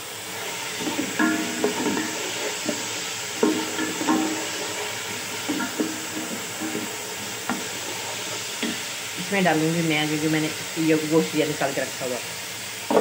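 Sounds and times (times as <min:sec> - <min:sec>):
masala frying in oil: 0:00.0 - 0:13.0.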